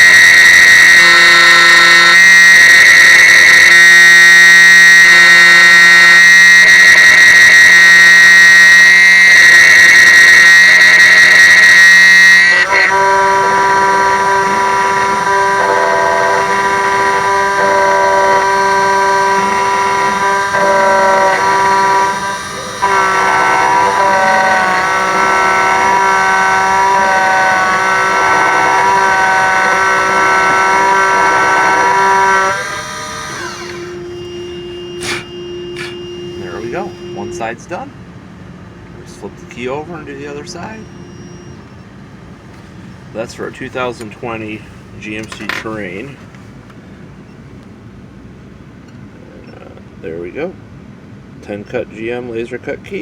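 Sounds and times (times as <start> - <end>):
key cutting machine whining: 0.0 - 37.8, 39.0 - 46.2.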